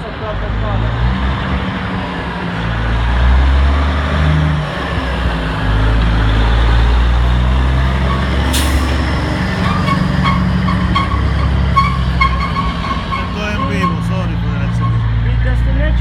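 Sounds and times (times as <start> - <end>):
diesel bus engine rumbling: 0.0 - 16.0.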